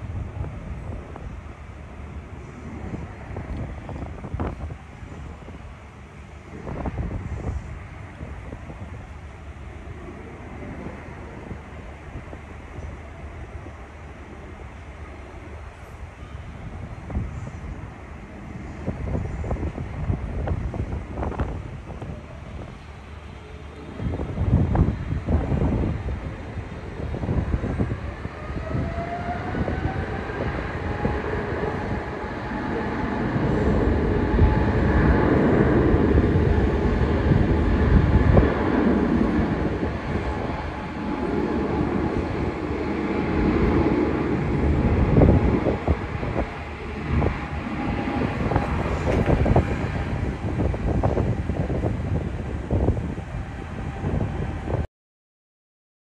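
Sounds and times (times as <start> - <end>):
heavy jet rumble: 0.0 - 54.9
jet engine whine: 0.0 - 54.9.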